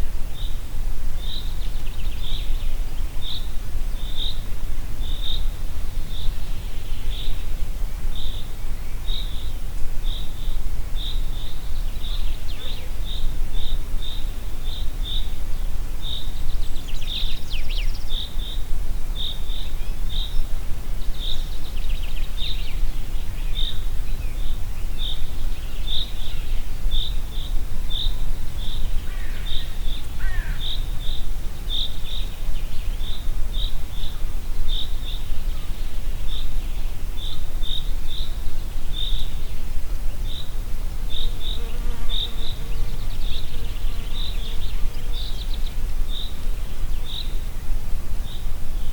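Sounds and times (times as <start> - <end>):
low wind noise: 0.0 - 48.9.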